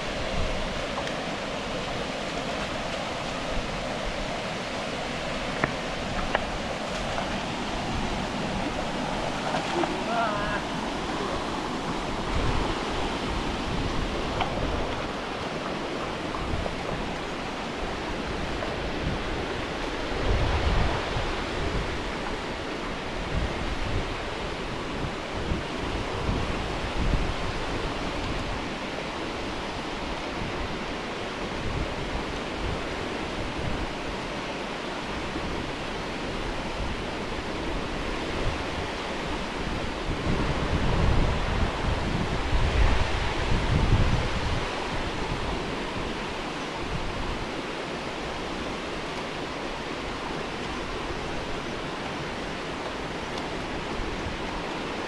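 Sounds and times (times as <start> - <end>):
wind buffeting microphone: 0.0 - 34.3, 35.1 - 55.0
water rushing over weir: 0.0 - 55.0.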